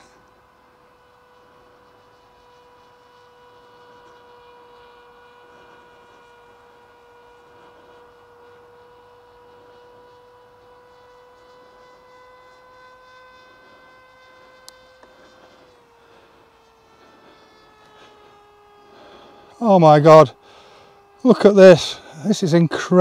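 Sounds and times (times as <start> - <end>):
model plane propeller buzzing: 0.0 - 23.0.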